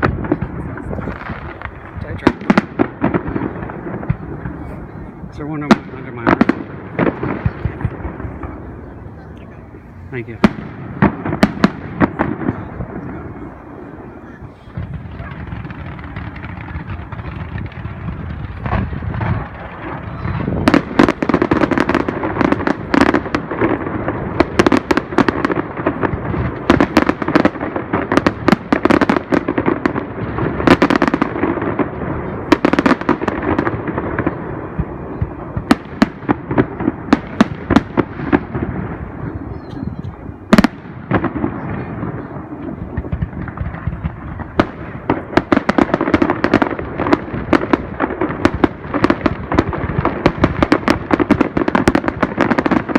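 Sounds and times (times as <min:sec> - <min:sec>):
fireworks bursting: 0:00.0 - 0:52.9.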